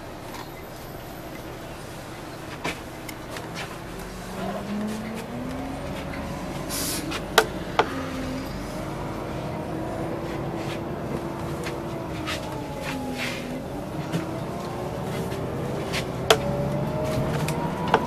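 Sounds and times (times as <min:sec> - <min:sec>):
bus engine: 0:00.0 - 0:18.0.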